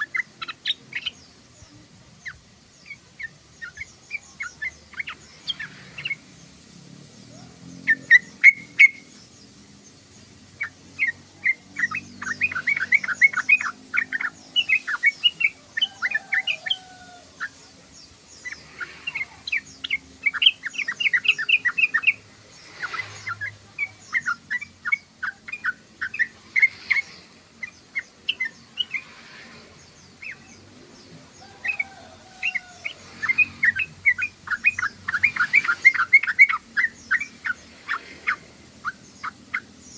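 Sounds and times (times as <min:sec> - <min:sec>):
bulbul chirping song: 0:00.0 - 0:39.9.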